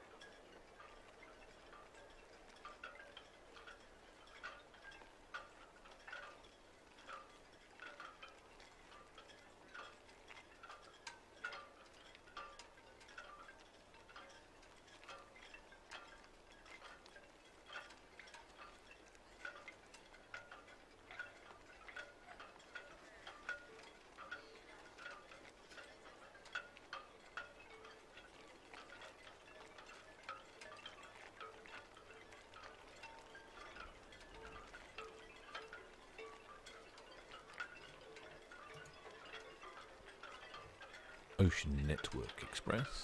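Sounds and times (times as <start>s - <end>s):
faint chime-like background music: 0.0s - 43.0s.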